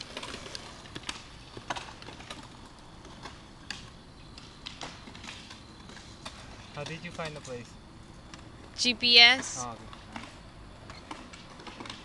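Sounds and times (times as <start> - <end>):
low steady background noise: 0.0 - 12.0
skateboards clacking on concrete: 0.0 - 12.0.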